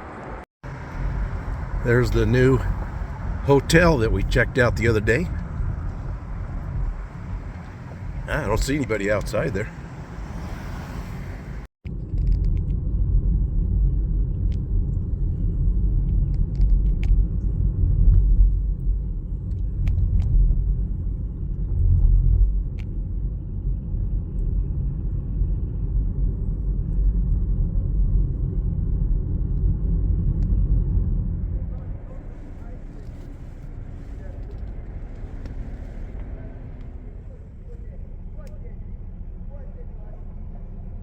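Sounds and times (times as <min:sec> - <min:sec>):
road and engine rumble in car: 0:00.0 - 0:41.0.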